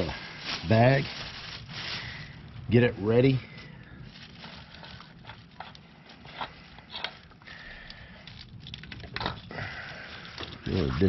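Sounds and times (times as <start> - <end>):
plastic bag crinkling: 0.0 - 2.7, 3.3 - 11.0.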